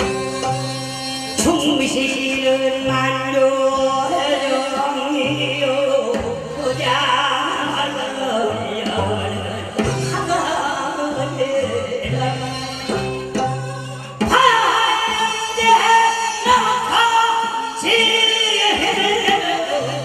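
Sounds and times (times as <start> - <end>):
man singing into microphone: 1.4 - 13.0, 14.2 - 20.0.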